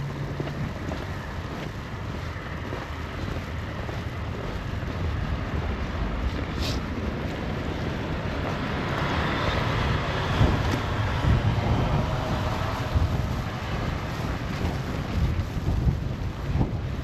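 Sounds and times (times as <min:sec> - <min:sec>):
vehicle passing by: 0:00.0 - 0:16.8
wind buffeting microphone: 0:00.0 - 0:17.0.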